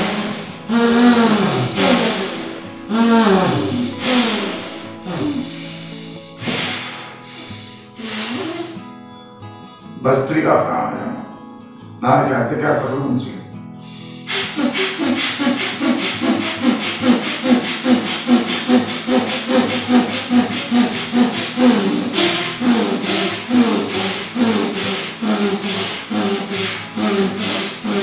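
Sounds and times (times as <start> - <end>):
rapid forceful nose breathing: 0.0 - 8.8, 13.8 - 28.0.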